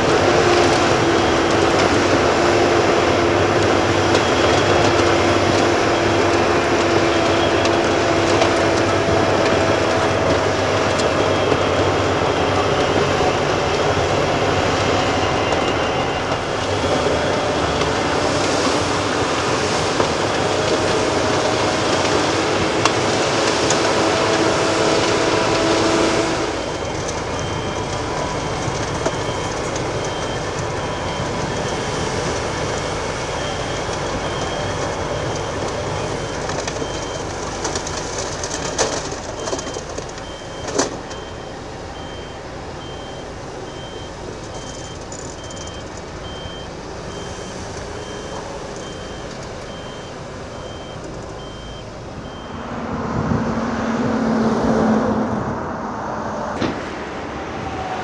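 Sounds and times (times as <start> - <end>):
reversing alarm beeping: 0.0 - 52.8
heavy earthmoving machinery running: 0.0 - 58.0.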